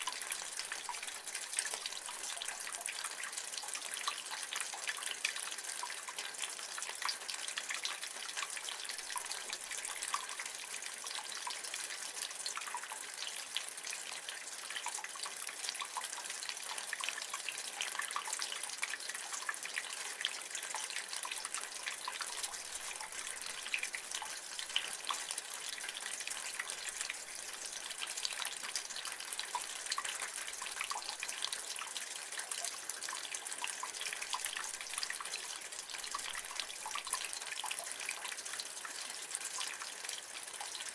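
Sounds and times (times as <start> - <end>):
rain water running from gutter: 0.0 - 40.9
small irregular drips: 0.0 - 40.9.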